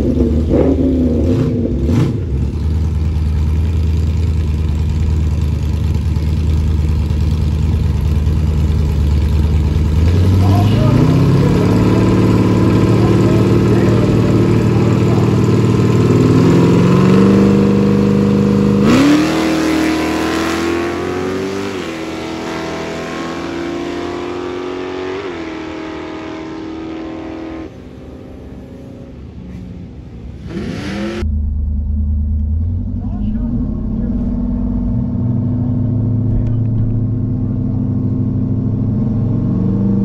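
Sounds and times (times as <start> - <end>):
car engine revving and accelerating: 0.0 - 4.9, 9.2 - 29.6, 30.3 - 40.0.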